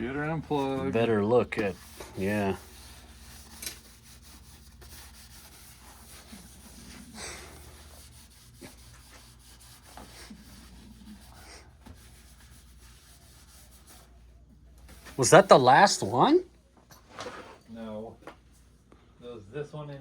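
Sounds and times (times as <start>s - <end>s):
low steady hum: 0.0s - 16.8s.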